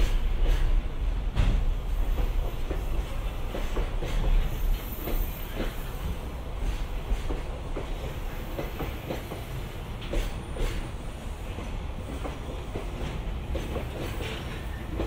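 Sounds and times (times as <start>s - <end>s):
train low rumble: 0.0s - 15.0s
train wheels clicking over rail joints: 0.0s - 15.0s.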